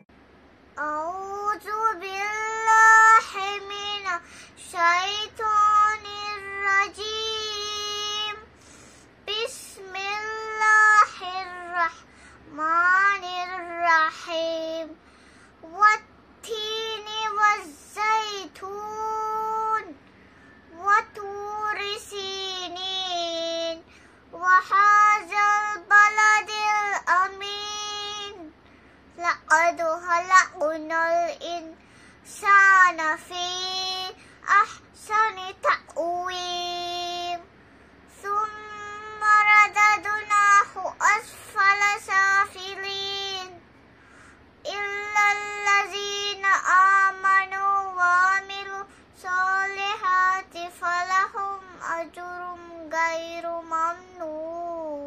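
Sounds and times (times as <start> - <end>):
girl chanting melodic recitation: 0.8 - 8.5, 9.3 - 15.0, 15.6 - 20.0, 20.7 - 28.6, 29.2 - 37.5, 38.1 - 43.6, 44.6 - 55.0.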